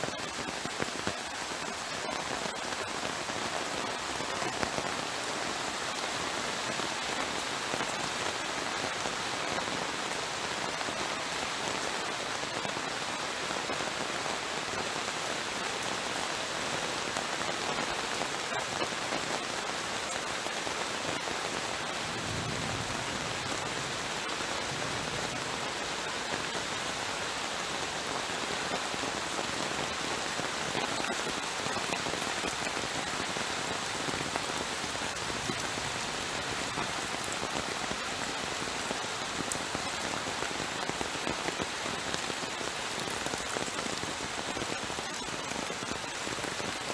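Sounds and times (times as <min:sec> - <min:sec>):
heavy rain: 0:00.0 - 0:46.9.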